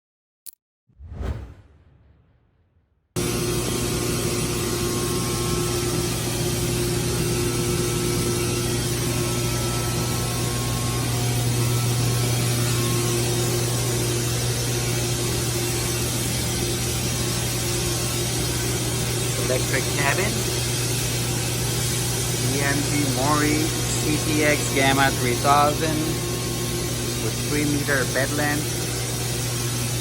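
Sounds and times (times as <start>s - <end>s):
low mechanical hum: 3.2s - 30.0s.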